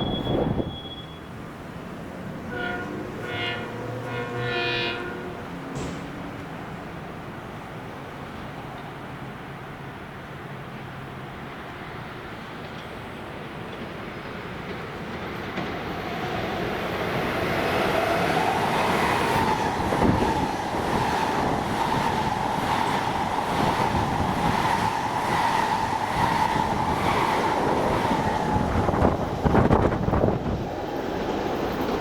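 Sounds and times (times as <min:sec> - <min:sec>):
train passing with whine: 0:00.0 - 0:32.0.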